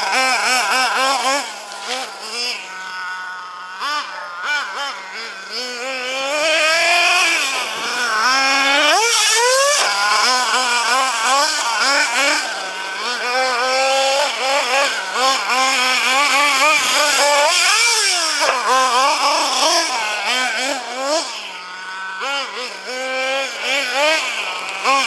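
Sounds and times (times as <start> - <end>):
small nitro engine revving: 0.0 - 25.0.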